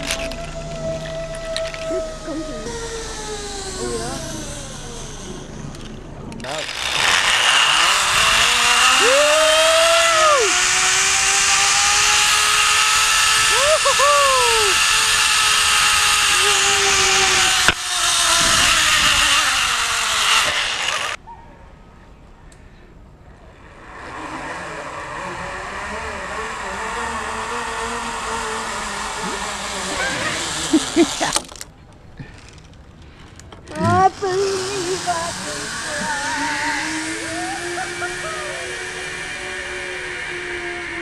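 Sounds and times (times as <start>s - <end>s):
zip-line trolley whirring: 0.0s - 21.2s, 23.5s - 41.0s
zipline pulleys hissing on cable: 0.0s - 21.2s, 23.6s - 31.6s, 32.3s - 41.0s.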